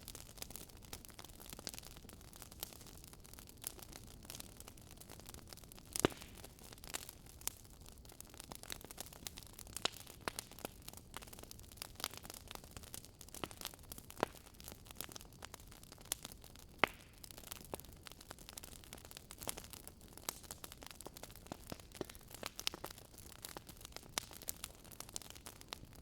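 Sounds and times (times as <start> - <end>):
fire low hiss: 0.0 - 26.0
wood fire crackling and popping: 0.0 - 26.0.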